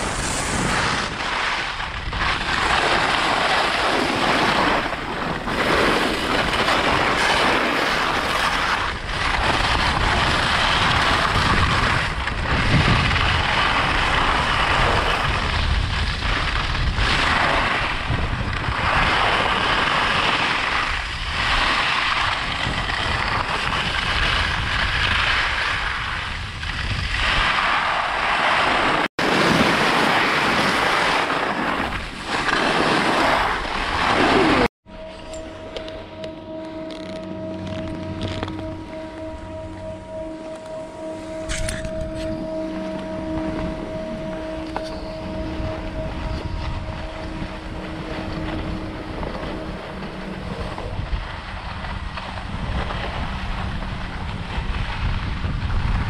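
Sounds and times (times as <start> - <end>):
skis scraping on packed snow: 0.0 - 34.7, 41.5 - 56.0
wind buffeting microphone: 0.0 - 56.0.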